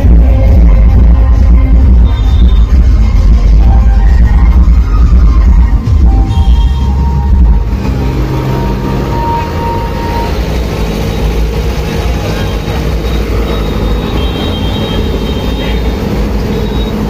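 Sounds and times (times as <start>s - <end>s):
heavy truck engines rumbling: 0.0s - 17.0s
loud street crowd: 0.0s - 17.0s.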